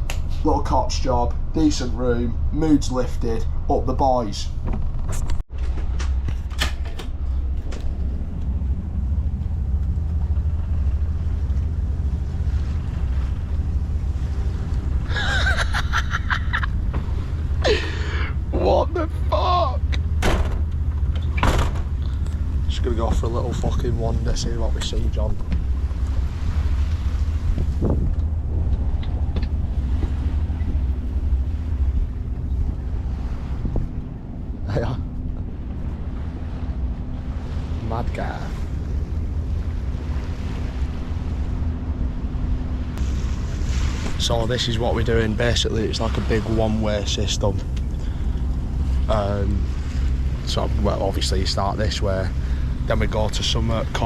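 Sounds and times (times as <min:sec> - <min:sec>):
boat engine rumble: 0:00.0 - 0:54.0
faint steady hum: 0:00.0 - 0:54.0.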